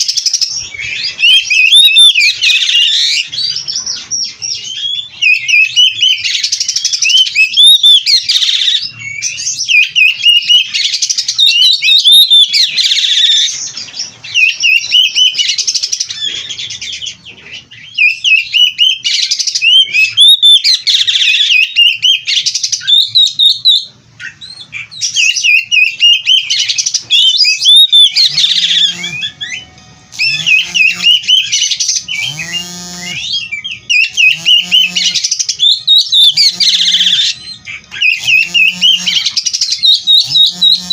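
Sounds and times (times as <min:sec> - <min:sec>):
lower-pitched bird calls: 0:00.0 - 0:40.9
magpie-robin singing: 0:00.0 - 0:40.9.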